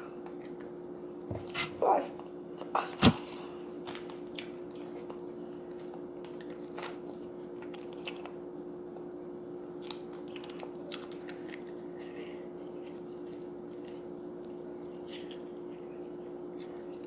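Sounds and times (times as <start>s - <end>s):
steady hum: 0.0s - 17.0s
person chewing food: 2.6s - 17.0s.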